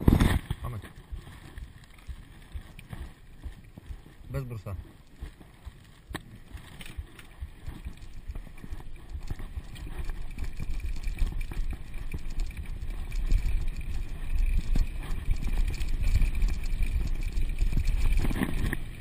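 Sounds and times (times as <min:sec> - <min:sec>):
bike rattling over bumps: 0:00.0 - 0:19.0
tyres rumbling over dirt: 0:00.0 - 0:19.0
wind buffeting microphone: 0:00.0 - 0:19.0.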